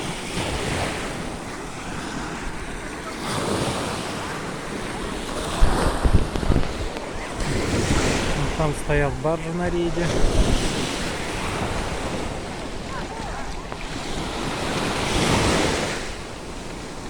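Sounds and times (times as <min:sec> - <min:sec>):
waves washing onto shore: 0:00.0 - 0:17.0
wind buffeting microphone: 0:00.0 - 0:17.0.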